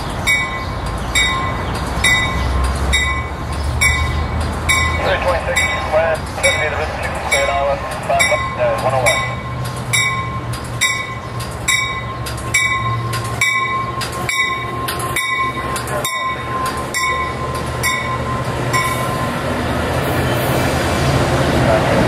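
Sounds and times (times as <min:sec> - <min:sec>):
train rumbling past: 0:00.0 - 0:22.0
train bell ringing: 0:00.2 - 0:19.5.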